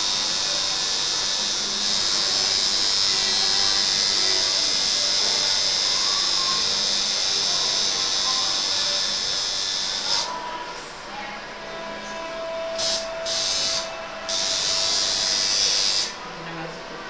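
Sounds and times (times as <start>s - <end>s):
tattoo machine buzzing: 0.0s - 10.4s, 12.7s - 16.2s.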